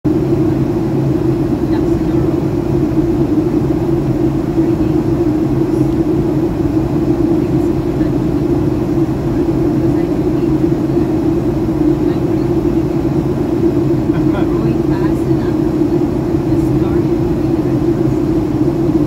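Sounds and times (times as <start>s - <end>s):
cabin airflow rush: 0.0s - 19.0s
low engine drone: 0.0s - 19.0s.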